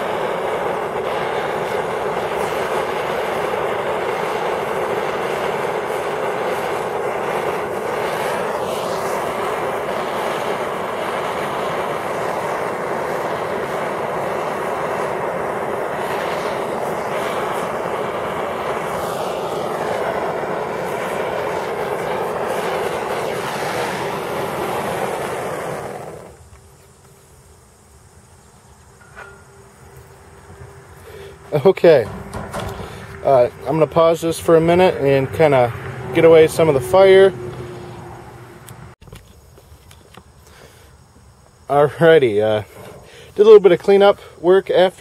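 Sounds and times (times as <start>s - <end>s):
gas torch blowing: 0.0s - 45.0s.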